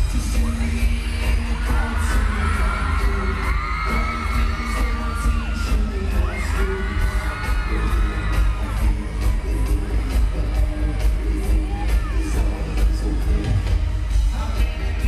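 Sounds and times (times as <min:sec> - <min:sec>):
crowd singing along: 0:00.0 - 0:15.0
pop song over arena speakers: 0:00.0 - 0:15.0.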